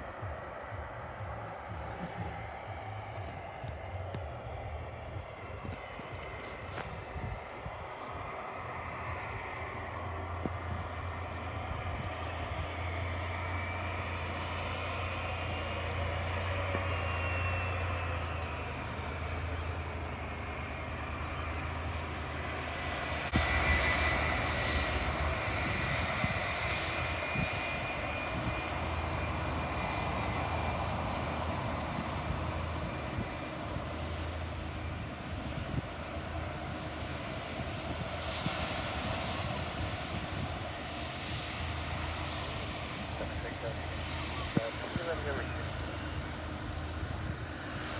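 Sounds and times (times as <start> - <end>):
airliner engines roaring: 0.0 - 47.9.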